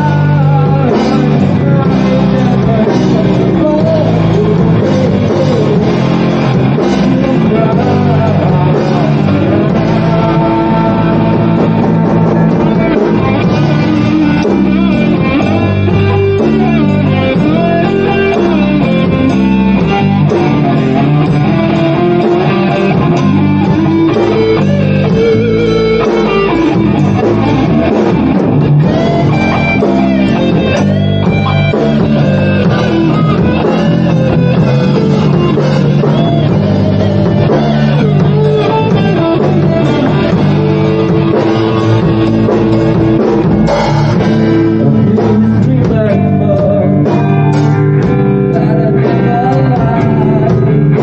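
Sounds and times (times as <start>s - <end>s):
rock music: 0.0s - 51.0s.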